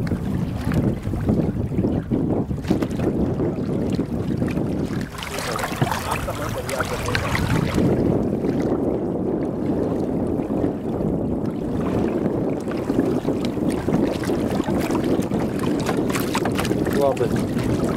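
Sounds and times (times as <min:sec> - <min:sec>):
small boat engine rumble: 0:00.0 - 0:17.9
wind buffeting microphone: 0:00.0 - 0:17.9.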